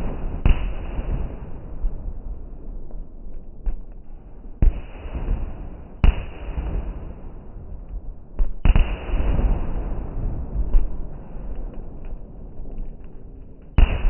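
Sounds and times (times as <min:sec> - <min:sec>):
fireworks bangs: 0:00.0 - 0:02.0, 0:04.6 - 0:14.0.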